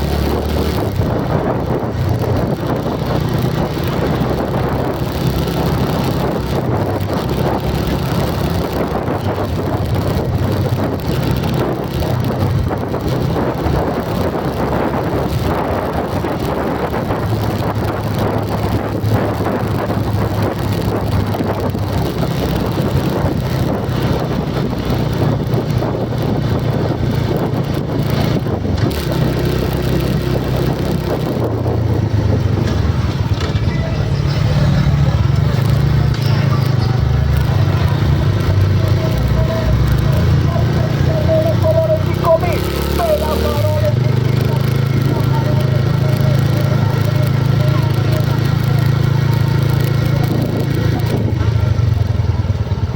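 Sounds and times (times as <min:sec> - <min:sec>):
vehicle engine running: 0:00.0 - 0:52.9
wind and road noise: 0:00.0 - 0:52.9.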